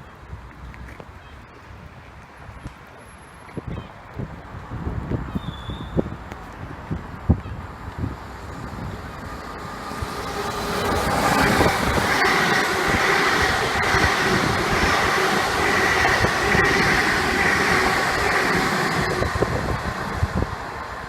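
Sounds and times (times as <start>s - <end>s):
train running by: 0.0s - 21.0s.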